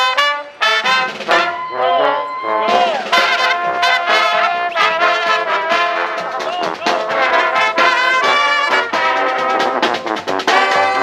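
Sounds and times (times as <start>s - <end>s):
trumpets and horns: 0.0s - 11.0s
tuba: 0.0s - 11.0s
drum beats: 0.6s - 11.0s.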